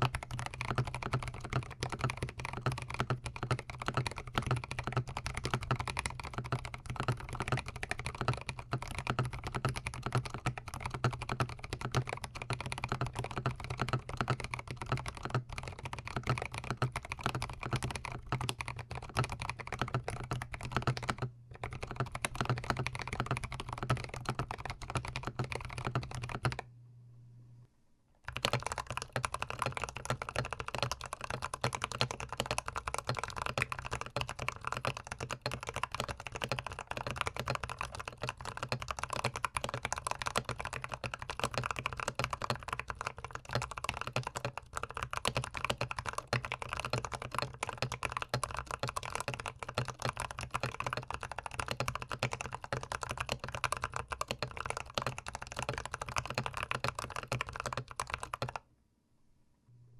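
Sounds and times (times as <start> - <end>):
mechanical keyboard typing: 0.0 - 26.6, 28.2 - 58.6.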